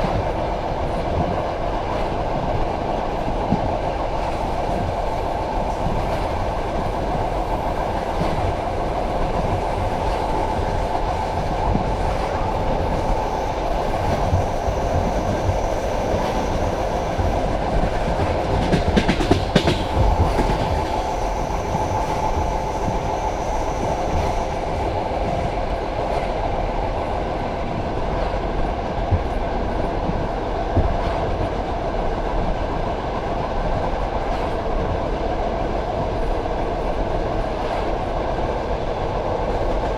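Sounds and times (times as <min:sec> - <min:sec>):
train clatter: 0:00.0 - 0:39.9
train wheels rumbling on rails: 0:00.0 - 0:39.9.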